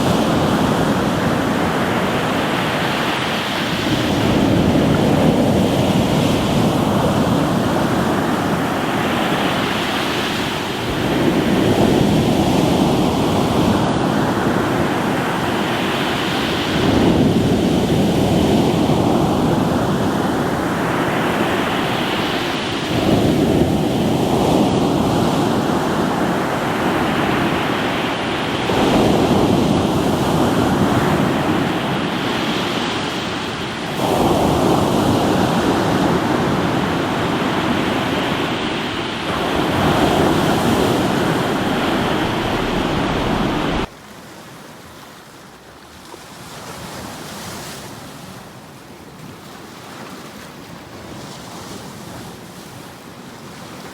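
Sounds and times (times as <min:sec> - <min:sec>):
waves breaking on rocky shore: 0:00.0 - 0:53.9.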